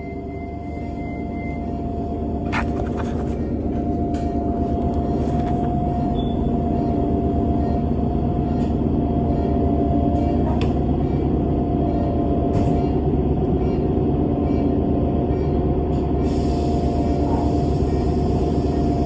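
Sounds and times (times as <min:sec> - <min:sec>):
bus engine rumble and whine: 0:00.0 - 0:19.0.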